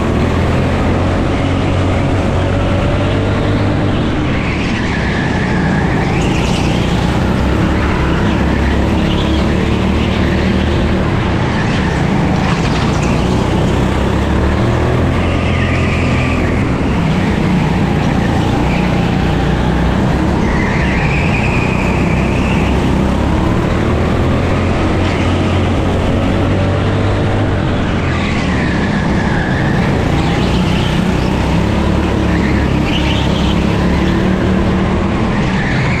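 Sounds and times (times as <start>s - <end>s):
go-kart engine racing: 0.0s - 36.0s
wind and road noise: 0.0s - 36.0s.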